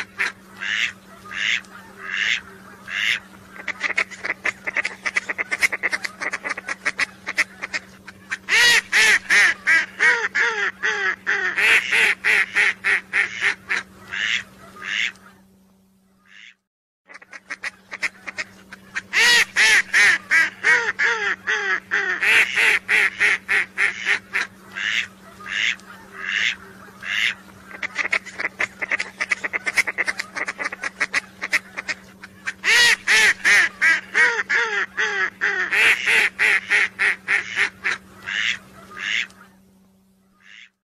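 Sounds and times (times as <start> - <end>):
ducks quacking: 0.0 - 15.5, 16.1 - 39.6, 40.3 - 40.8
steady low hum: 0.0 - 40.8.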